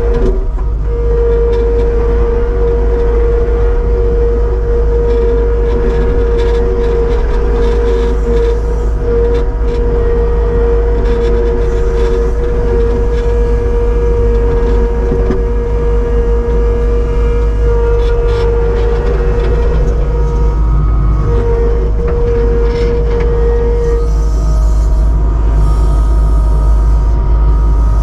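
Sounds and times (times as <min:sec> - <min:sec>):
diesel engine under load: 0:00.0 - 0:28.0
steady whine: 0:00.0 - 0:28.0.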